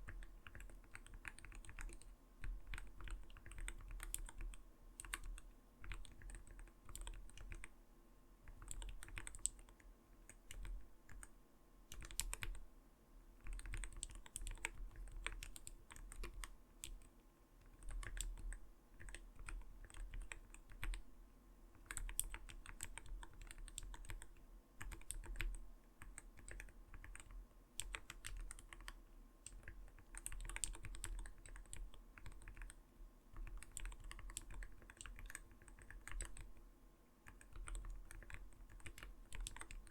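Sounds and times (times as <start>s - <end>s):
mechanical keyboard typing: 0.0s - 7.7s, 8.5s - 11.3s, 11.9s - 12.6s, 13.4s - 21.0s, 21.8s - 36.6s, 37.3s - 39.9s.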